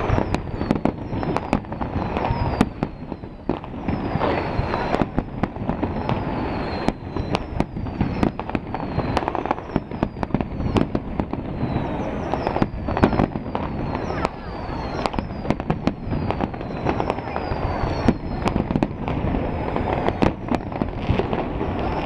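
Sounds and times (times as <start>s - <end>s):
firework crackling: 0.0s - 22.0s
high whistle falling in pitch: 0.0s - 22.0s.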